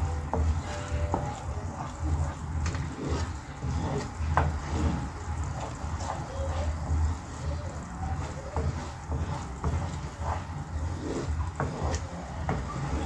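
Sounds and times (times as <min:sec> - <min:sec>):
sauce simmering in a pan: 0:00.0 - 0:13.0
spoon knocking and scraping pan: 0:00.0 - 0:13.0.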